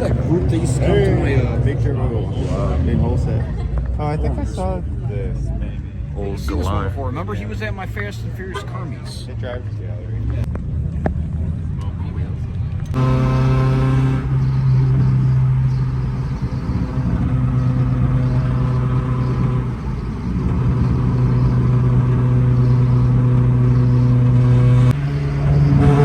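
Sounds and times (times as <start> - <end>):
car engine droning: 0.0 - 8.6, 9.3 - 26.0.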